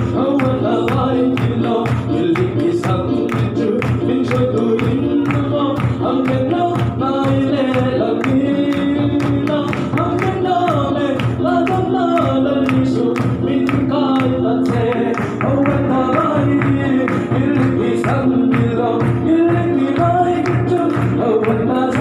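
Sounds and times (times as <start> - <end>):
steady drum beat: 0.0 - 22.0
voices singing: 0.0 - 22.0.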